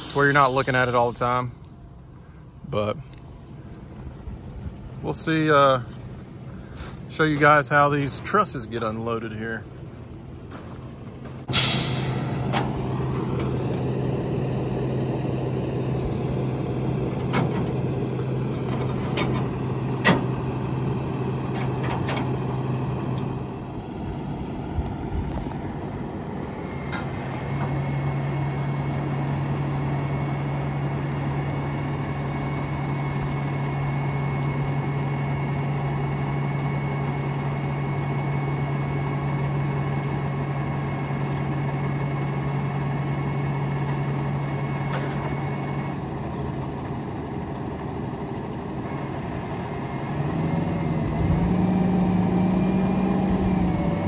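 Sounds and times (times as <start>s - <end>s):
hydraulic whine: 0.0s - 1.4s, 11.5s - 54.0s
diesel truck engine running: 0.0s - 54.0s.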